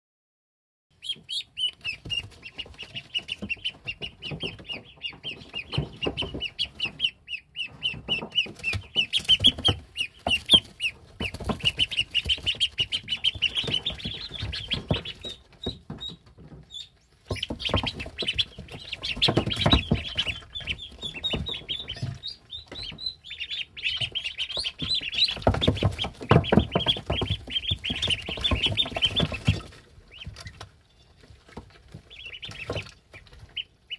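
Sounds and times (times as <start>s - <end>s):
ducklings peeping: 0.9s - 33.9s
soft tapping and rustling: 1.7s - 33.8s.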